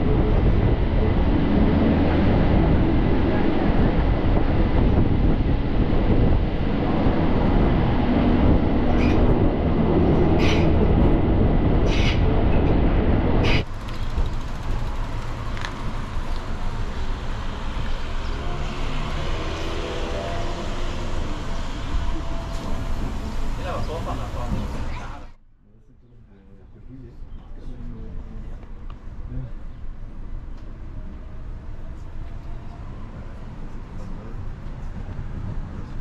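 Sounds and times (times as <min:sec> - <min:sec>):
train rumbling: 0:00.0 - 0:25.4, 0:27.9 - 0:36.0.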